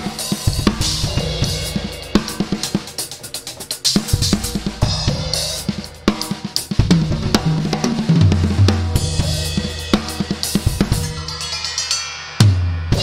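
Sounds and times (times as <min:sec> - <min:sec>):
tom drum run: 0:00.5 - 0:11.1.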